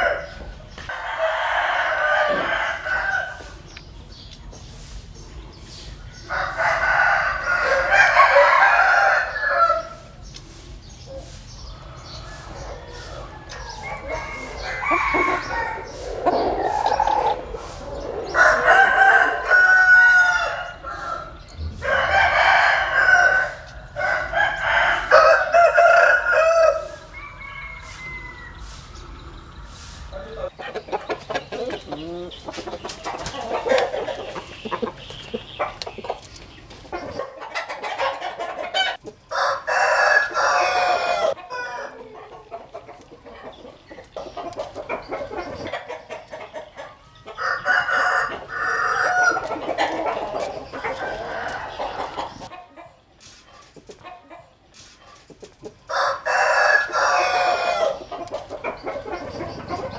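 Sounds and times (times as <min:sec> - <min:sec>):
roosters crowing: 0:00.0 - 0:03.8, 0:05.5 - 0:10.6, 0:11.2 - 0:52.6, 0:55.7 - 0:59.9
chicken clucking: 0:00.0 - 0:59.9.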